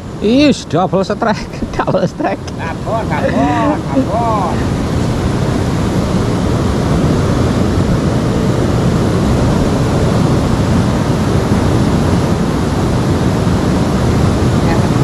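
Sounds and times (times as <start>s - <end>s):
river water rushing: 2.6s - 15.0s.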